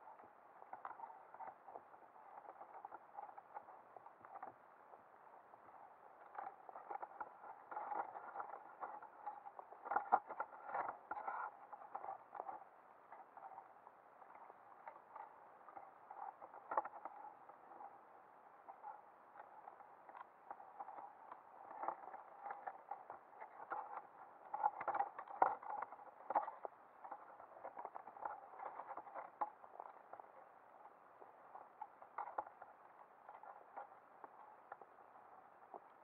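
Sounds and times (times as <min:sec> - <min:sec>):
faint steady hum: 0:00.0 - 0:36.0
underwater clicking and crackling: 0:00.1 - 0:36.0.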